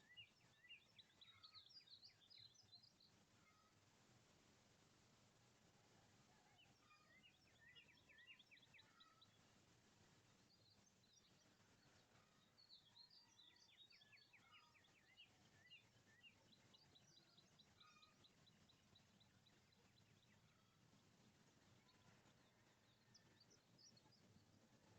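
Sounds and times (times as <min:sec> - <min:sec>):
faint songbird song: 0:00.0 - 0:24.9.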